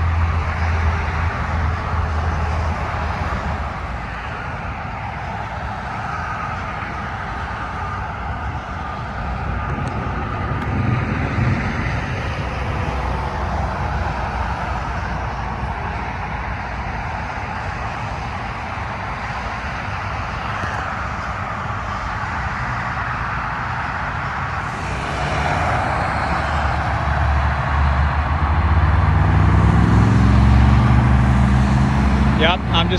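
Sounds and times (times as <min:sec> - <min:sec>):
highway traffic road noise: 0:00.0 - 0:32.9.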